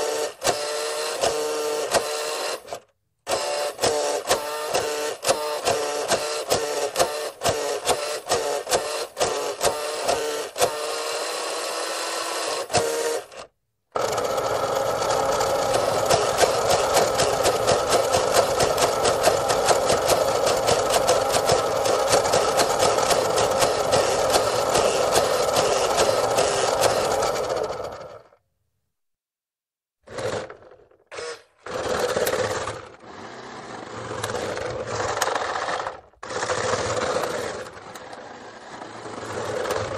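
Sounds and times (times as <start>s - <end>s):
toy motor and gears whining: 0.0s - 28.4s, 30.1s - 39.9s.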